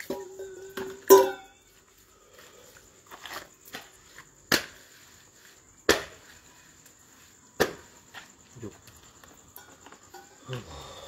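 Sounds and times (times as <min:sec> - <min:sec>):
crickets droning: 0:00.0 - 0:11.0.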